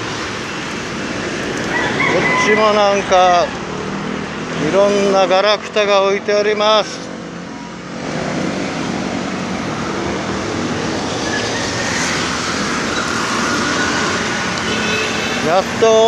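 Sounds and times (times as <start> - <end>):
passing cars and motorcycles: 0.0 - 16.0.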